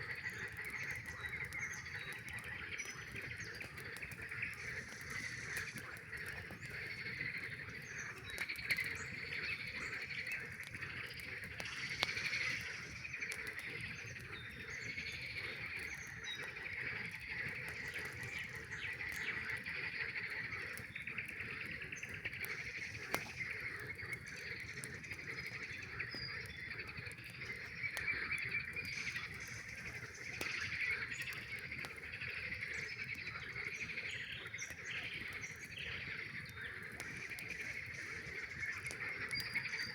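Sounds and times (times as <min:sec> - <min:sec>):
campfire popping and crackling: 0:00.0 - 0:39.9
frogs calling: 0:00.0 - 0:39.9.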